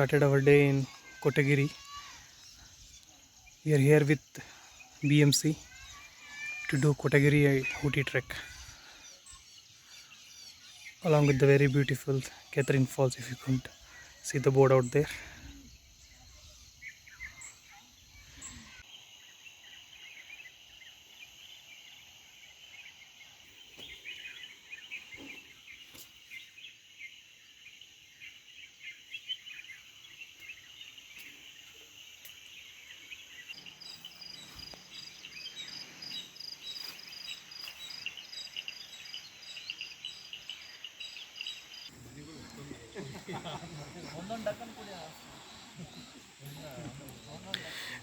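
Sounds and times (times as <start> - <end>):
rapid pulsed insect call: 0.0 - 7.7, 8.3 - 14.2, 15.2 - 48.0
insects and birds chirping: 0.0 - 48.0.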